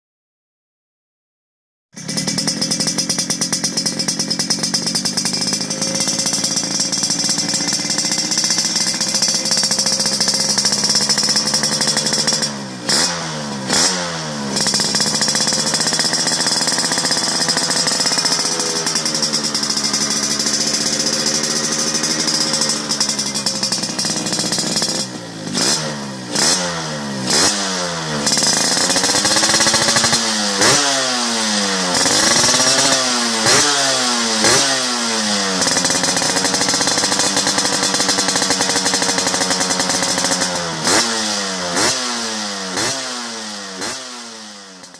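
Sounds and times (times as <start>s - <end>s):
motorcycle engine revving: 2.0s - 44.9s.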